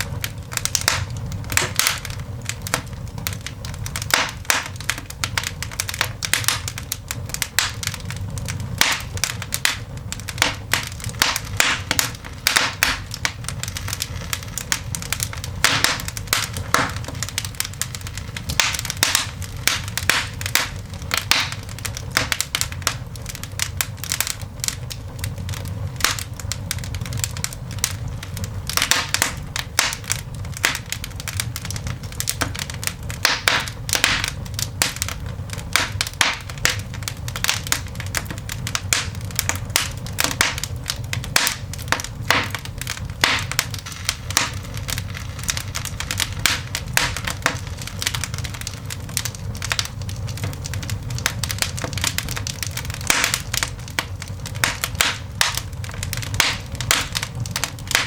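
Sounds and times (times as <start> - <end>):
coal fire crackling and popping: 0.0 - 58.0.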